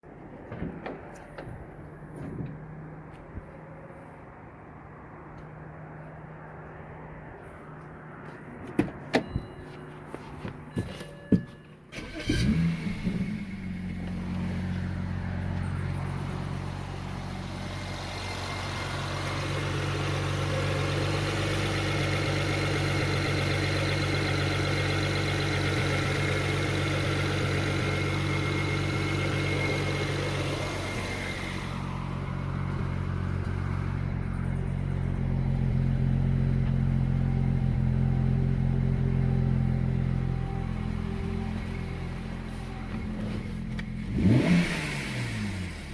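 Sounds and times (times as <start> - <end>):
car engine idling: 8.2 - 45.9.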